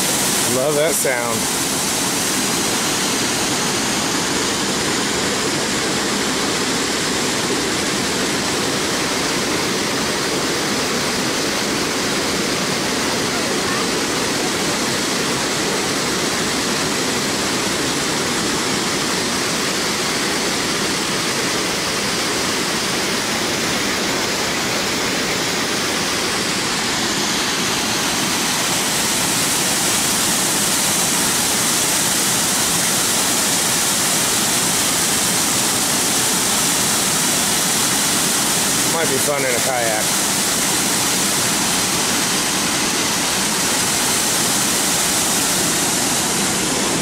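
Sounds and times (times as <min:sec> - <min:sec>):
water rushing over spillway: 0:00.0 - 0:47.0.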